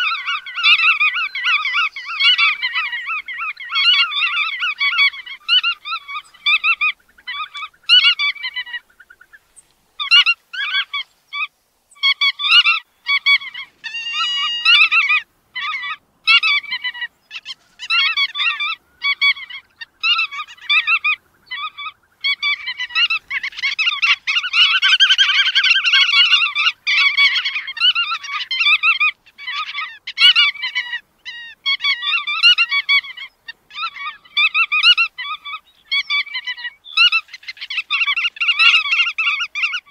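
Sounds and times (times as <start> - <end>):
birds calling nasally: 0.0 - 39.9.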